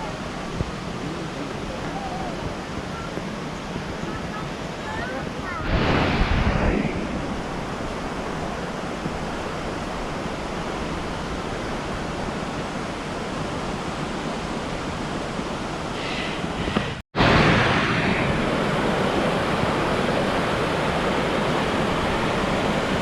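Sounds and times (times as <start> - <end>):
river flowing: 0.0 - 16.7, 18.1 - 23.0.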